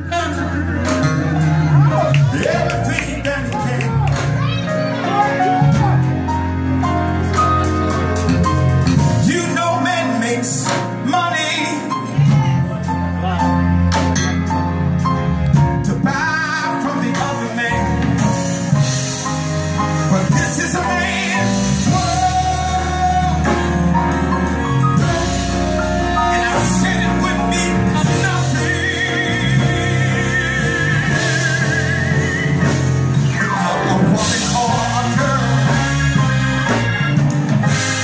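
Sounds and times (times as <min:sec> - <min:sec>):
man singing: 0:00.0 - 0:04.1, 0:09.0 - 0:13.5, 0:15.7 - 0:38.0
guitar: 0:00.0 - 0:38.0
piano: 0:00.0 - 0:38.0.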